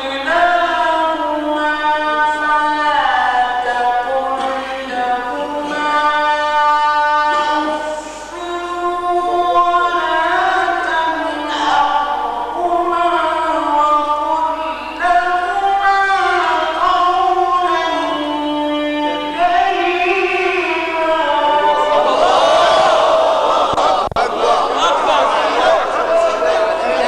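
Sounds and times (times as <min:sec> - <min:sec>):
man reciting melodically: 0:00.0 - 0:22.6, 0:24.0 - 0:27.0.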